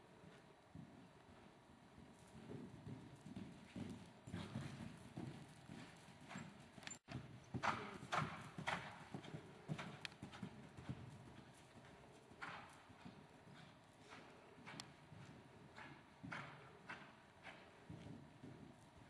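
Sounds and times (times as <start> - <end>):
hoofbeats on sand: 2.2 - 18.9.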